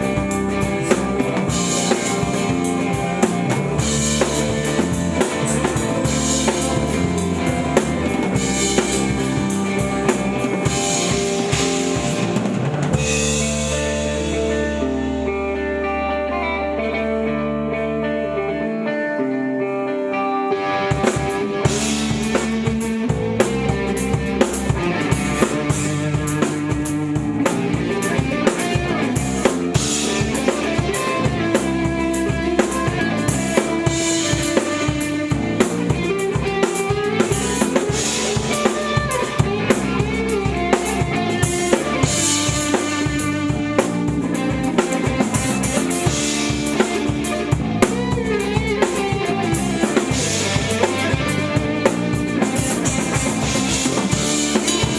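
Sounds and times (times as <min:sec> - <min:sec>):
drum kit beat: 0:00.0 - 0:14.8, 0:20.9 - 0:54.9
band playing: 0:00.0 - 0:17.0, 0:20.6 - 0:54.9.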